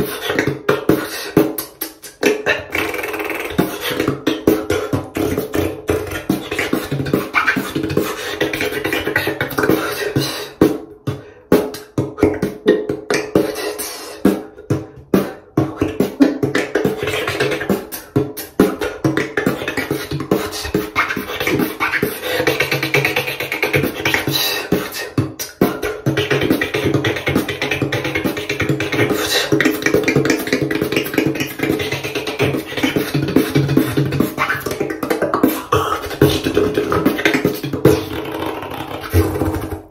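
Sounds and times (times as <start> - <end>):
beatboxing: 0.0 - 39.9.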